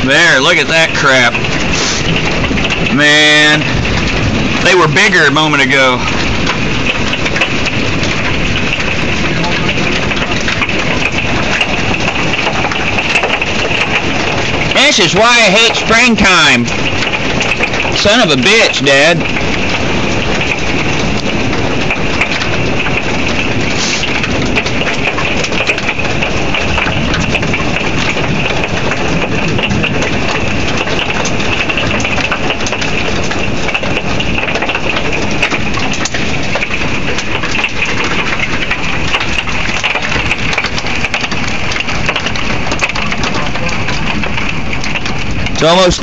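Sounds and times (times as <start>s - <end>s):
hail falling: 0.0s - 46.0s
hailstones clicking: 0.0s - 46.0s.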